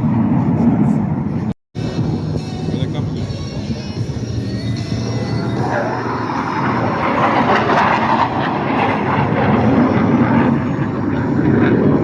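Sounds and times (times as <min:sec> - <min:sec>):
jet aircraft roaring past: 0:00.0 - 0:12.0.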